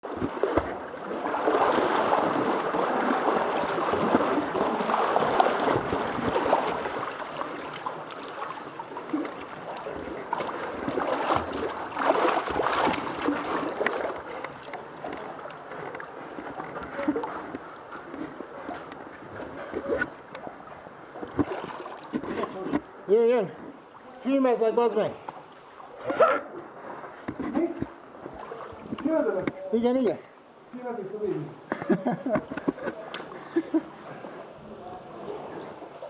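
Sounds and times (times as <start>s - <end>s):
water splashing and sloshing: 0.0s - 36.0s.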